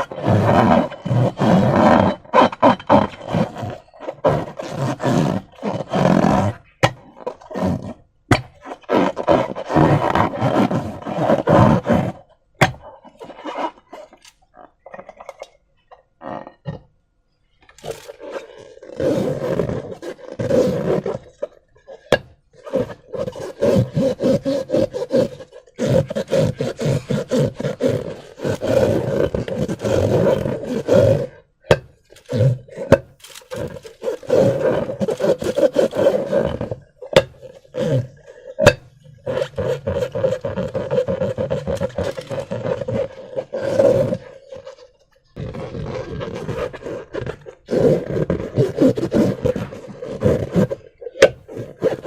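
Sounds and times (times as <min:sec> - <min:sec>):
rubbery squeaking of slime balloons: 0:00.0 - 0:52.0.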